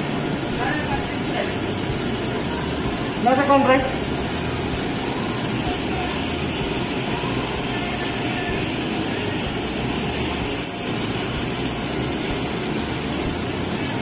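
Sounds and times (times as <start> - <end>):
kitchen machinery drone: 0.0 - 14.0.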